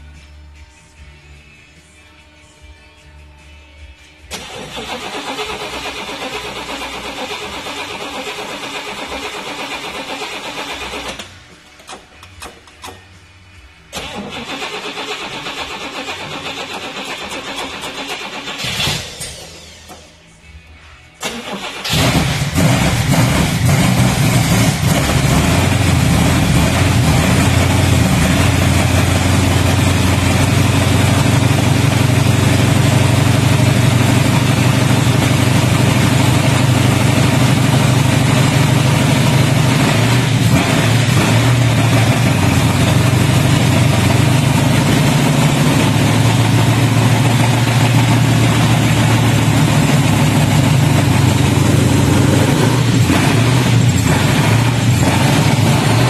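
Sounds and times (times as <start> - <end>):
engine cranking and running loudly: 4.3 - 11.3, 13.9 - 20.0, 21.2 - 56.0.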